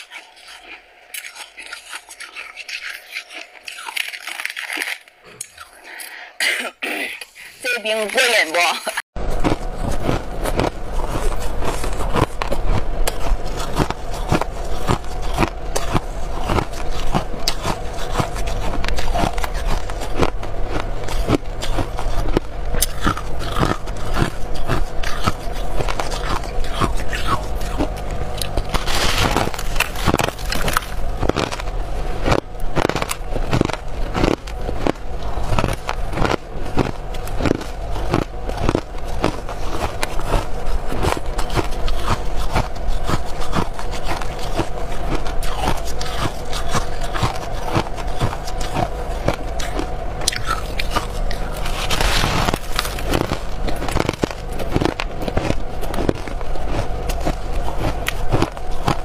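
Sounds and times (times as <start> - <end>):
frost being chewed: 0.0 - 6.2, 9.2 - 59.0.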